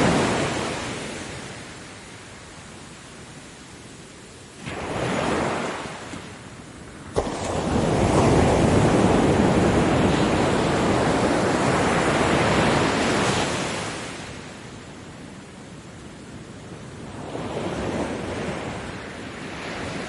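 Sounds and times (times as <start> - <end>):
ocean waves crashing on beach: 0.0 - 20.0.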